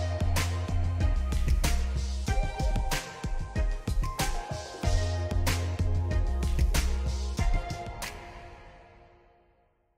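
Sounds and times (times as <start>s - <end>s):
background music with bass and drums: 0.0s - 8.4s.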